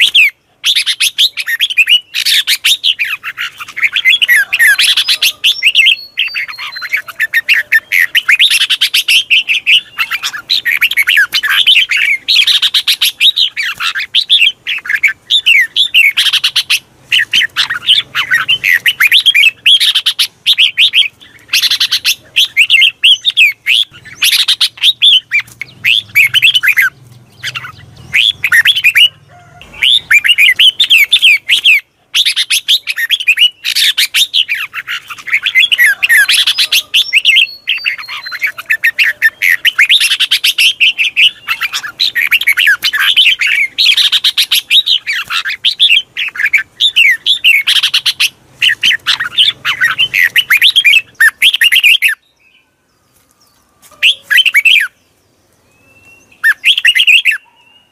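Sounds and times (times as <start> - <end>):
bird chirping and whistling: 0.0 - 52.6, 53.9 - 55.0, 55.6 - 57.9.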